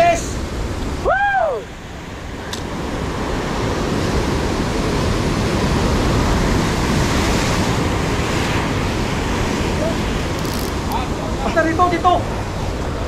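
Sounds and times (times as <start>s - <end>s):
waves breaking on rocks: 2.2s - 13.0s.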